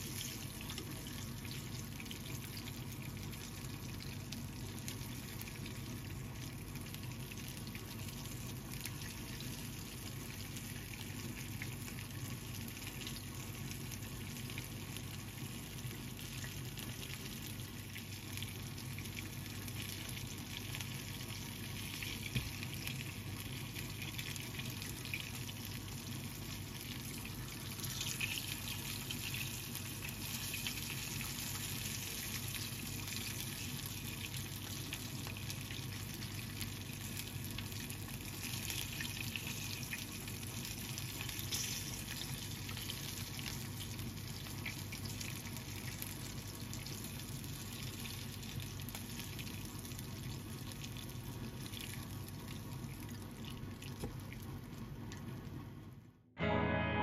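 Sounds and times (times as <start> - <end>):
chicken sizzling in oil: 0.0 - 55.7.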